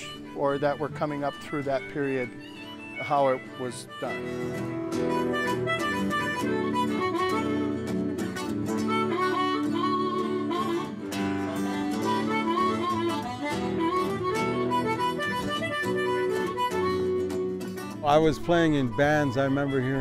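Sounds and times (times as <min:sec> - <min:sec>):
harmonica melody: 0:00.0 - 0:20.0
strummed acoustic guitars: 0:00.0 - 0:20.0.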